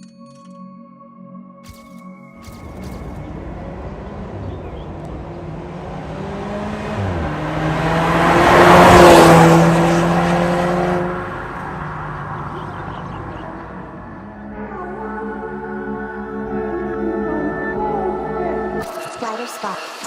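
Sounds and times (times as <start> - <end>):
car exhaust accelerating: 2.4 - 18.8.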